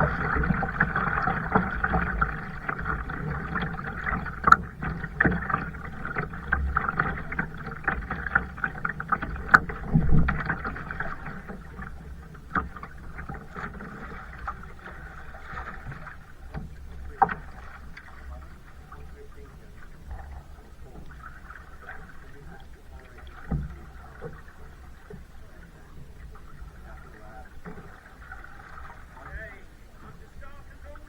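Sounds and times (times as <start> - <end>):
paddle strokes splashing in water: 0.0 - 31.0.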